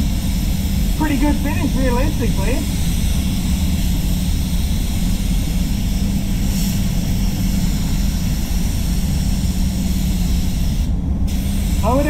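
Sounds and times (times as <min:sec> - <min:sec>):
low drone of booth air flow: 0:00.0 - 0:12.0
spray gun hissing: 0:00.0 - 0:12.0.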